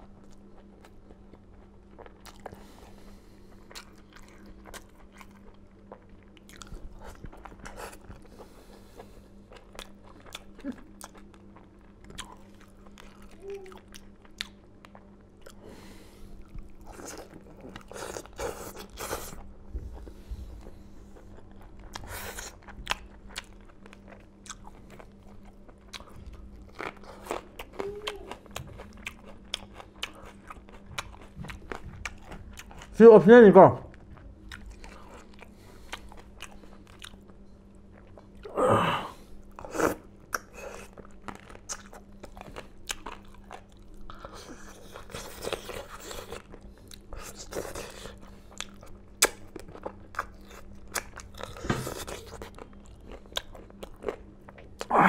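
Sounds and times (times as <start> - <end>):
person chewing fried chicken: 0.0 - 33.0, 33.9 - 38.5, 39.2 - 55.0
faint steady hum: 0.0 - 55.0.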